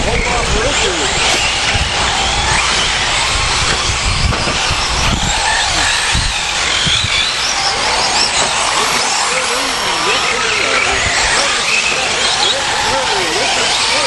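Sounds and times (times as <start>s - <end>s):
radio-controlled truck motors whining: 0.0s - 14.0s.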